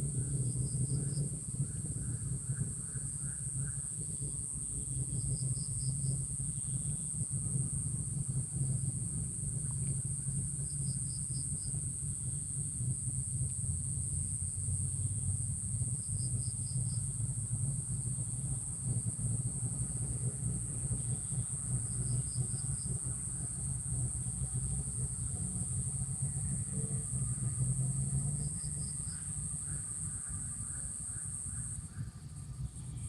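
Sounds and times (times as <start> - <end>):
insects buzzing: 0.0 - 33.0
low steady rumble: 0.0 - 33.0.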